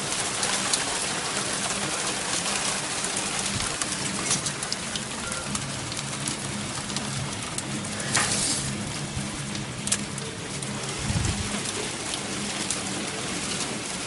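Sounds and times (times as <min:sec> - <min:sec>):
hail pelting down: 0:00.0 - 0:14.0.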